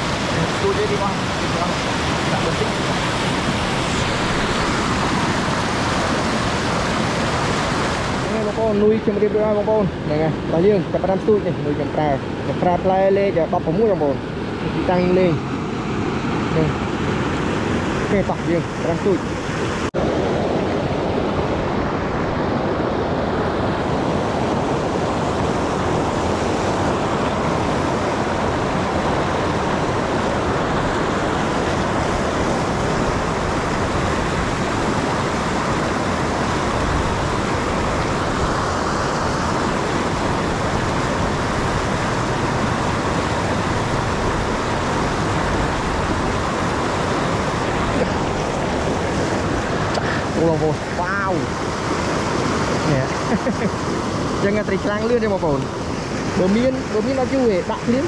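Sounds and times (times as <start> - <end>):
loud steady rushing noise: 0.0 - 58.0.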